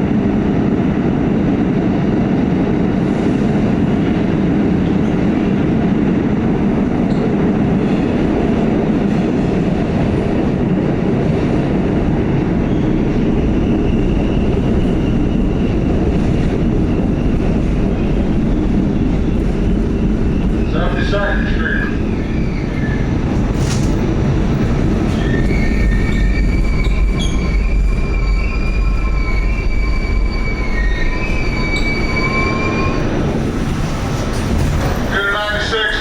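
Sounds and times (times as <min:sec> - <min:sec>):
subway wheels rumbling on rail: 0:00.0 - 0:36.0.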